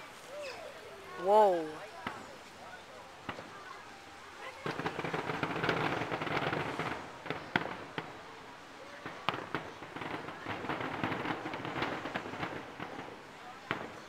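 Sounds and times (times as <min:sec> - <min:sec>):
firework crackling: 0:00.0 - 0:14.0
distant firework bursts: 0:01.1 - 0:02.6, 0:03.2 - 0:14.0.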